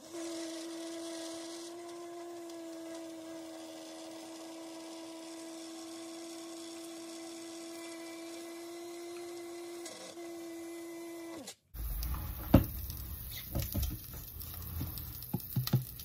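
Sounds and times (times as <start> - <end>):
blender motor running: 0.0 - 15.8.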